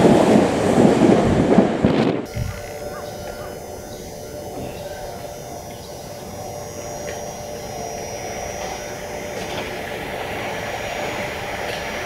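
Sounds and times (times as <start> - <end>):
electric train hum: 0.0 - 12.0.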